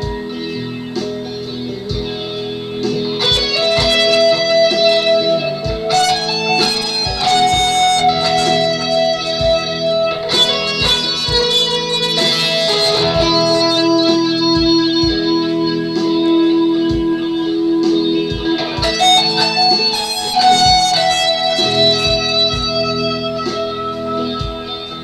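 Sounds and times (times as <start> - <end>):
electric guitar lead: 0.0 - 25.0
low thudding beat: 0.0 - 25.0.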